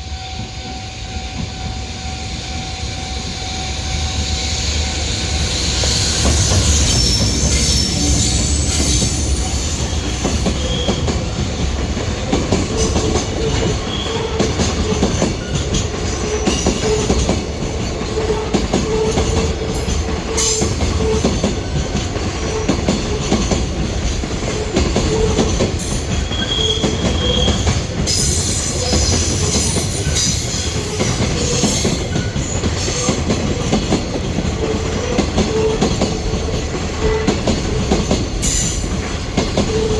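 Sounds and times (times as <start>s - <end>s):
train wheel squeals: 0.0s - 39.9s
train wheels rumbling on rails: 0.0s - 39.9s.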